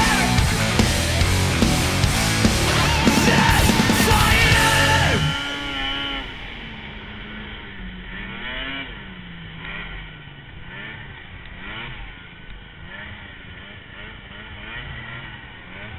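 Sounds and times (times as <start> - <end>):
snowmobile engine revving: 0.0 - 15.9.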